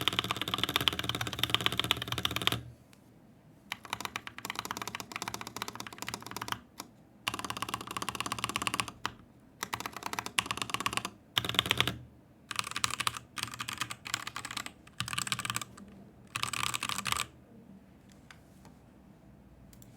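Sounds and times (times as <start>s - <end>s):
typing on mechanical keyboard: 0.0s - 2.7s, 3.7s - 17.4s.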